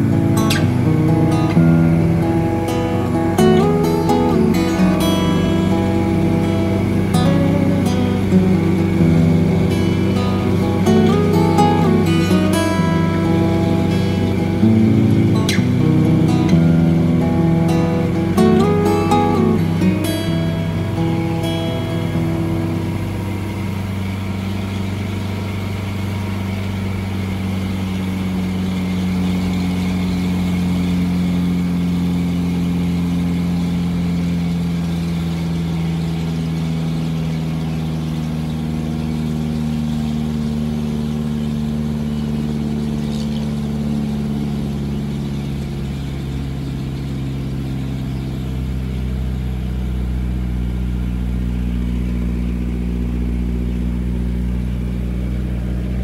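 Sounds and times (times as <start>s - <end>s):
truck diesel engine from cab: 0.0s - 56.0s.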